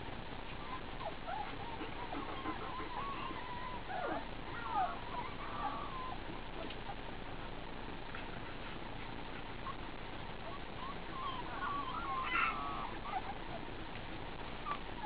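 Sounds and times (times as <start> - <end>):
puppies whining: 0.5 - 7.2, 8.3 - 15.0.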